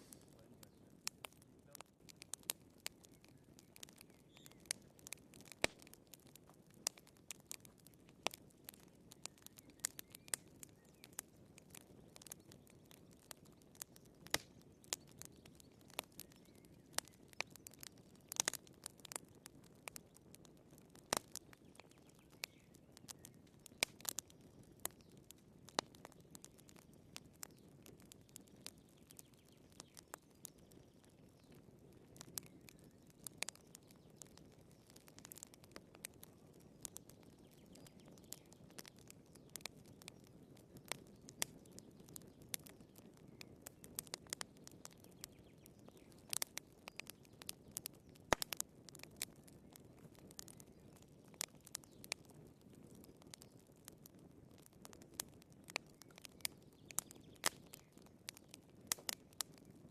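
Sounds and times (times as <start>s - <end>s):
faint low fire noise: 0.0s - 59.9s
firewood crackling: 0.0s - 59.9s.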